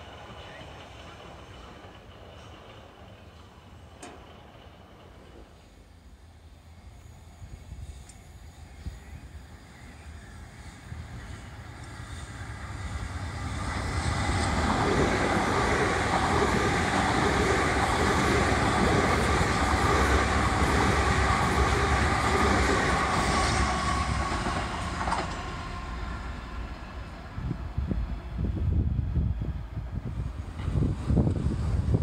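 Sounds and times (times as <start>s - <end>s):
train wheels rumbling on rails: 0.0s - 32.0s
train whine: 0.0s - 32.0s.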